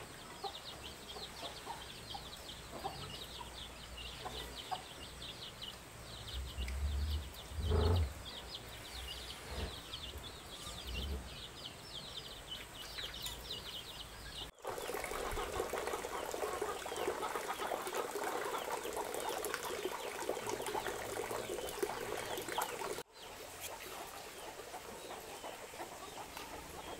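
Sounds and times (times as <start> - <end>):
poultry chirping and cheeping: 0.0 - 17.8, 21.4 - 26.9.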